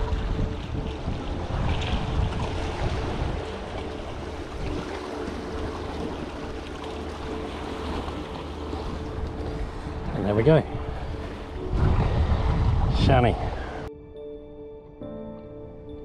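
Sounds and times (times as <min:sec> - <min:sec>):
sea water washing among rocks: 0:00.0 - 0:13.9
wind buffeting microphone: 0:00.0 - 0:14.6.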